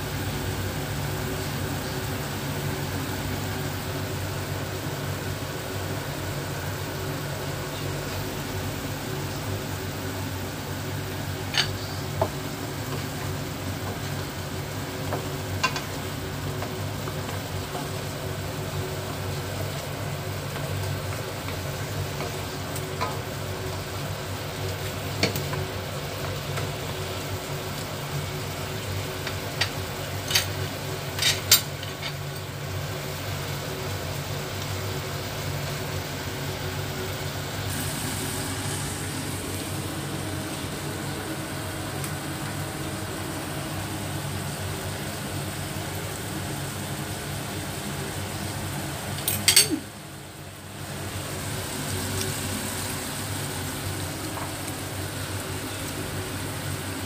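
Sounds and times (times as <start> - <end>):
meat sizzling in a frying pan: 0.0 - 57.0.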